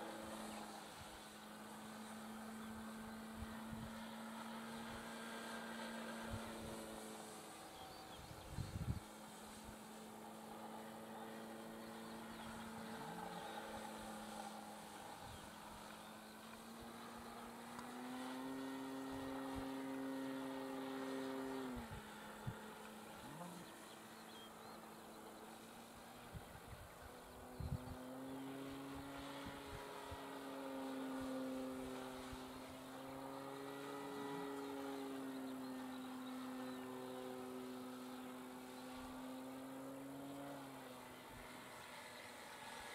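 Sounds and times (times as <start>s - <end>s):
model plane motor humming: 0.0s - 42.9s.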